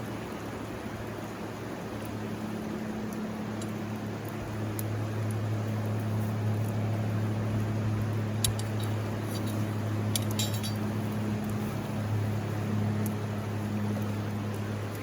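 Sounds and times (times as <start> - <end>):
river rushing: 0.0 - 15.0
low hum: 1.9 - 15.0.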